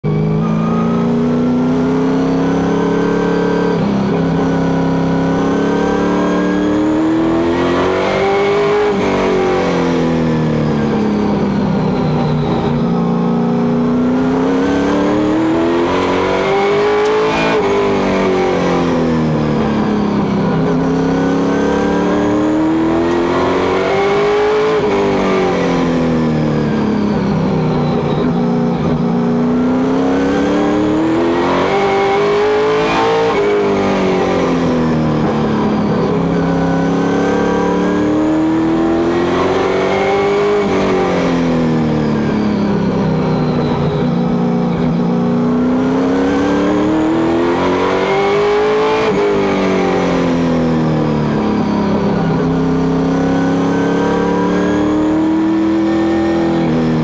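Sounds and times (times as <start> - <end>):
race car engine revving: 0.1 - 57.0.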